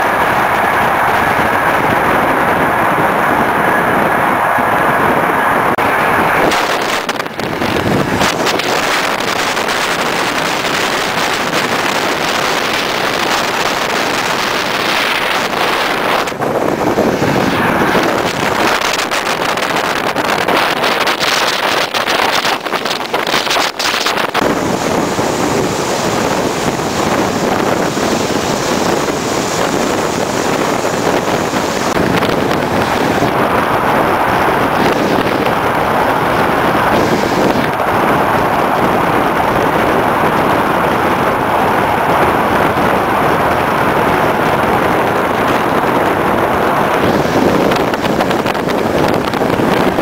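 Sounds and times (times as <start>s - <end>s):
train running noise: 0.0s - 50.0s
wind rushing past train window: 0.0s - 50.0s.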